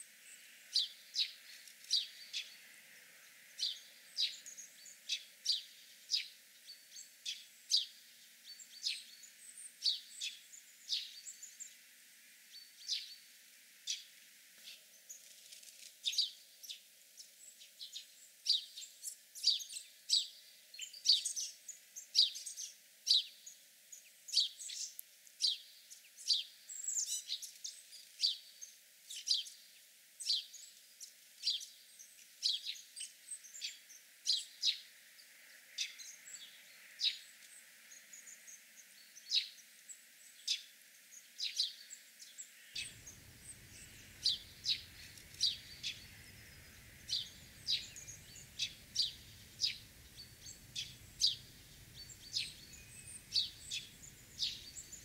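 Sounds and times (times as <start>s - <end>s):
sparrows chirping: 0.0s - 11.8s, 16.0s - 16.8s, 17.4s - 29.6s, 30.2s - 55.0s.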